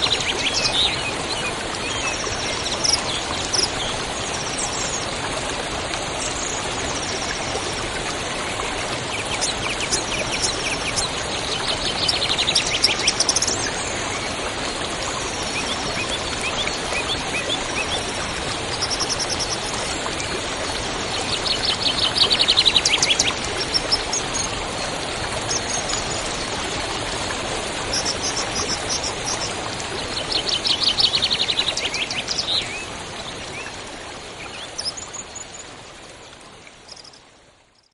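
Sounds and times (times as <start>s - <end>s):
stream rushing: 0.0s - 36.8s.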